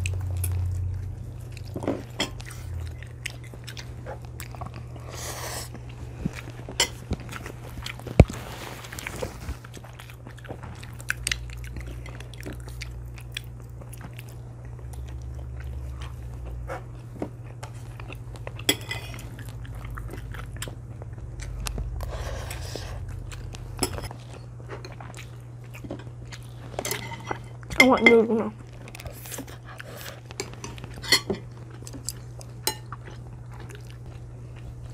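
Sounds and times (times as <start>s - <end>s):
chewing and biting: 0.0s - 27.7s, 28.6s - 34.9s
steady low hum: 0.0s - 34.9s.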